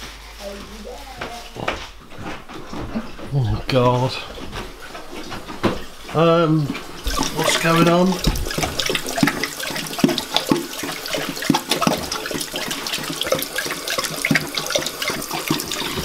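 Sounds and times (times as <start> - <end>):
tap running into sink: 1.2 - 16.0
dog lapping water: 1.4 - 16.0.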